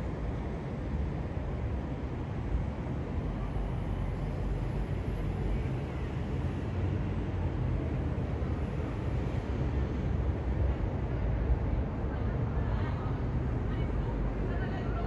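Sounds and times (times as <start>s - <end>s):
jet engines rumbling overhead: 0.0s - 15.0s.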